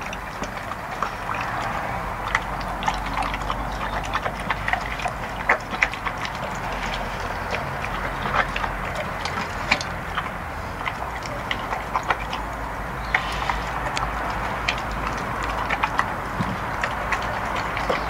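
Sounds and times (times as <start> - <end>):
dog chewing: 0.0 - 18.0.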